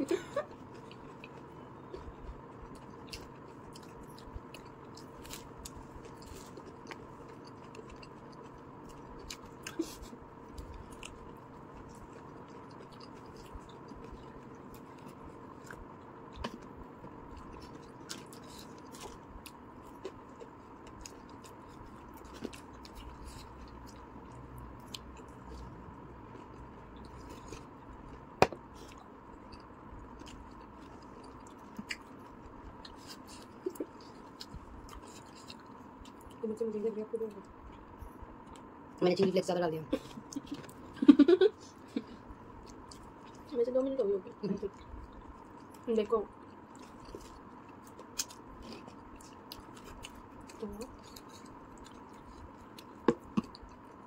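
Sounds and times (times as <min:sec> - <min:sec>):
faint steady hum: 0:00.0 - 0:54.0
people chewing pizza: 0:00.0 - 0:54.0.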